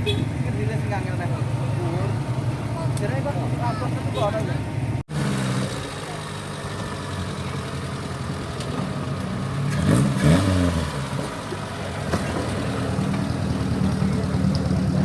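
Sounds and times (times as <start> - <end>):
vehicle engine running and revving: 0.0 - 15.0.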